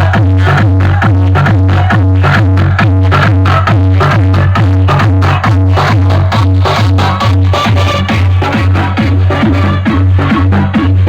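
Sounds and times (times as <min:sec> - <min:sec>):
loud electronic dance music: 0:00.0 - 0:11.0.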